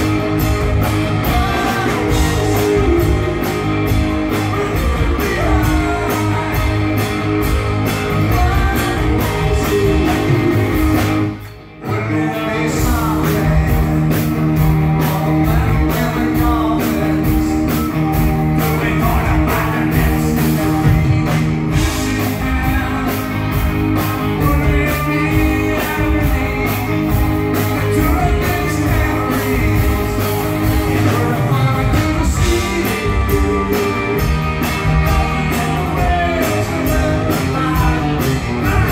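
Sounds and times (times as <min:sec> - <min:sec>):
electric guitar: 0:00.0 - 0:38.9
live rock band: 0:00.0 - 0:38.9
man singing: 0:01.1 - 0:07.3, 0:08.0 - 0:17.9, 0:18.6 - 0:38.9.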